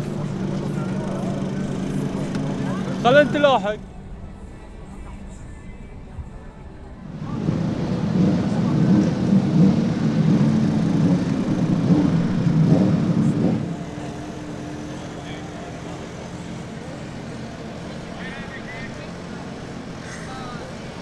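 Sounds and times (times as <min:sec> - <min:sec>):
racing motorcycle engines: 0:00.0 - 0:21.0.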